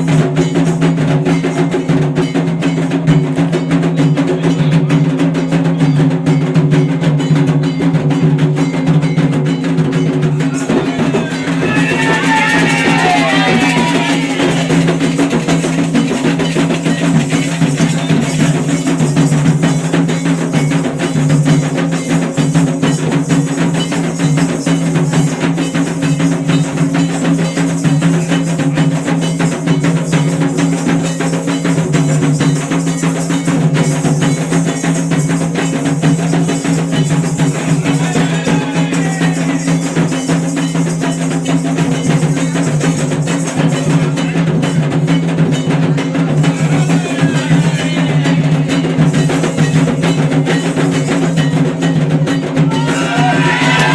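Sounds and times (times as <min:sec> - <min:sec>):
drum-led percussion music: 0:00.0 - 0:53.9.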